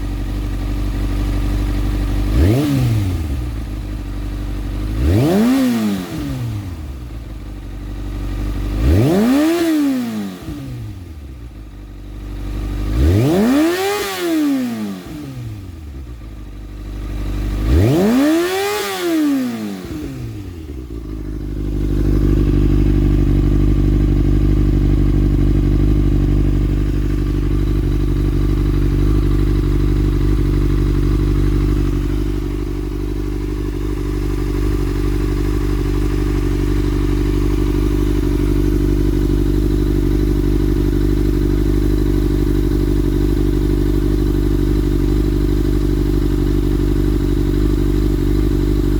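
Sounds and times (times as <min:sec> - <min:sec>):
motorcycle throttle blips: 0:00.0 - 0:12.0, 0:15.2 - 0:48.9
motorcycle engine idling: 0:00.0 - 0:48.9.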